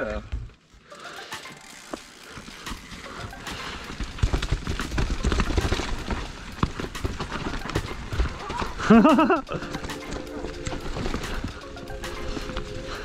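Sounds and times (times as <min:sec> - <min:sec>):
bike tyres over dirt and rocks: 0:00.0 - 0:13.0
bike chain and frame rattling: 0:00.7 - 0:13.0.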